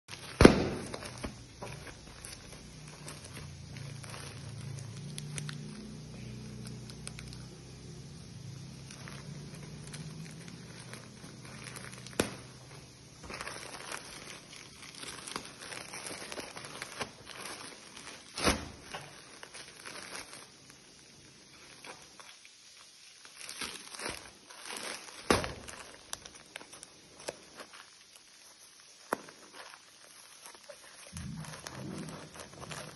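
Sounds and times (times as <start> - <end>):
plastic crinkling and rustling: 0.1 - 32.9.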